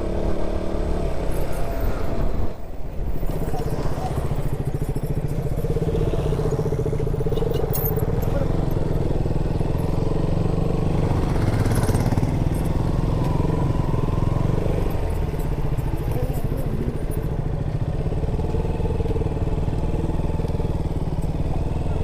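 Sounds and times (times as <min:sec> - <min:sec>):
motorcycle engine running: 0:02.9 - 0:22.0.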